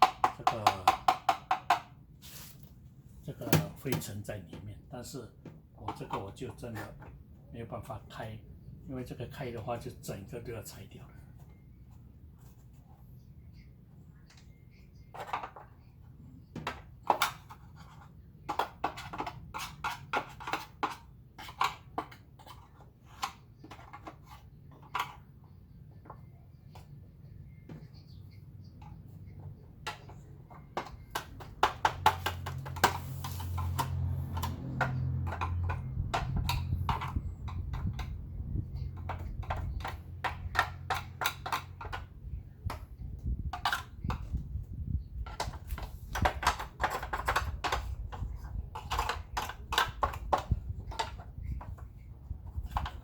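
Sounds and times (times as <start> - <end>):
plastic parts clicking and knocking: 0.0 - 2.0, 3.4 - 7.2, 14.3 - 53.0.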